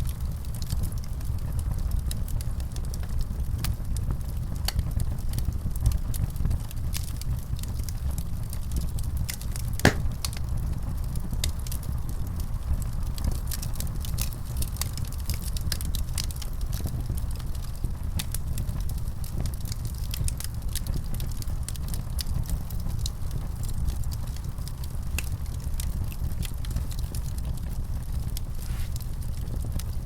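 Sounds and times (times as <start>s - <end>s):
fire crackling and popping: 0.0s - 30.0s
low fire rumble: 0.0s - 30.0s.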